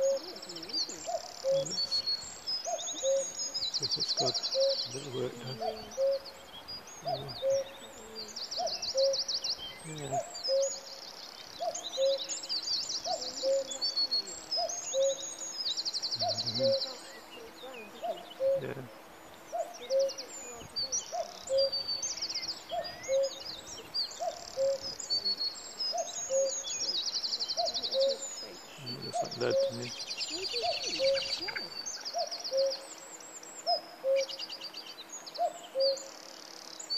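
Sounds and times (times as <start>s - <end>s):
cuckoo calling: 0.0s - 33.0s, 33.6s - 36.2s
songbirds trilling and chirping: 0.0s - 36.9s.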